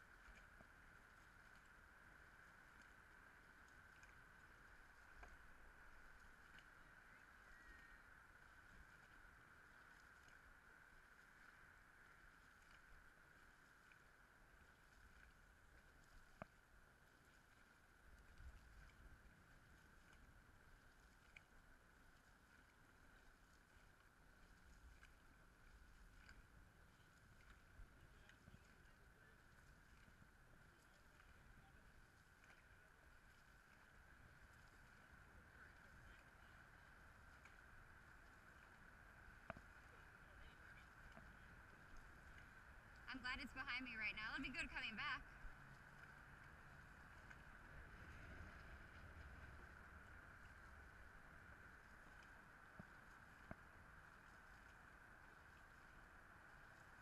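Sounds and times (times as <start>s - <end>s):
faint high whine: 0.0s - 57.0s
muffled boat paddling: 0.0s - 57.0s.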